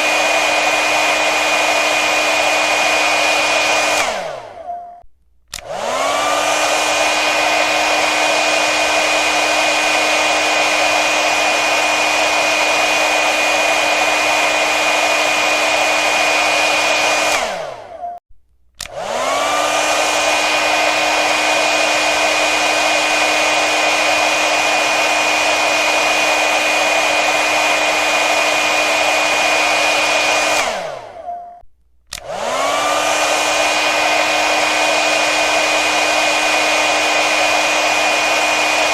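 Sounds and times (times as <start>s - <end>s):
hair dryer blowing: 0.0s - 4.8s, 5.5s - 18.2s, 18.8s - 31.3s, 32.1s - 38.9s.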